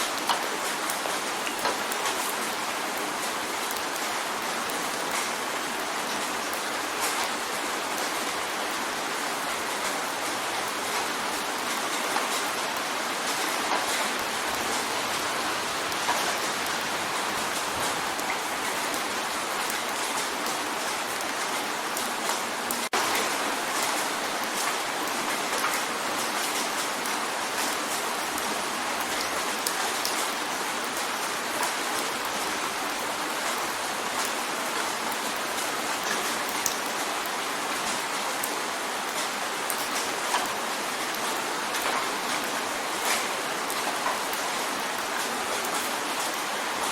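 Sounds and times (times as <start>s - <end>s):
rain drumming on a window: 0.0s - 46.9s.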